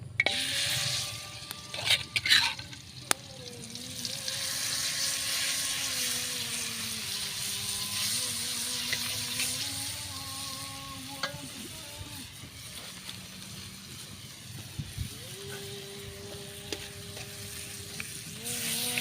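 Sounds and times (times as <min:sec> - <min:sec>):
birds sizzling in hot oil: 0:00.0 - 0:19.0.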